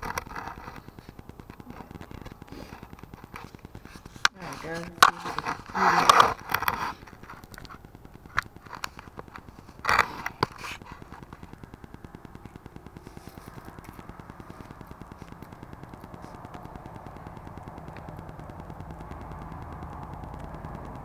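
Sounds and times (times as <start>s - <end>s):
faint fast even ticking: 0.0s - 21.0s.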